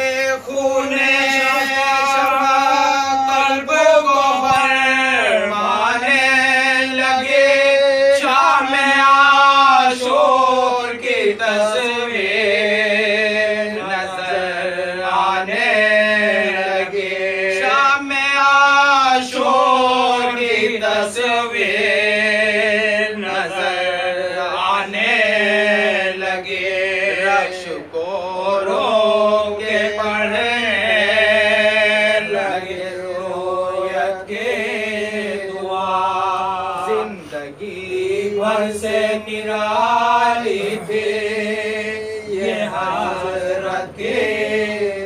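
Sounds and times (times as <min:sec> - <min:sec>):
men chanting a lament: 0:00.0 - 0:45.0.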